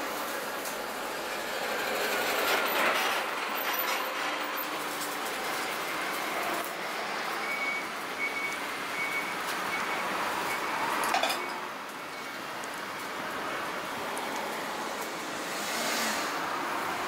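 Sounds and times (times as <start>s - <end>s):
busy street noise: 0.0s - 17.0s.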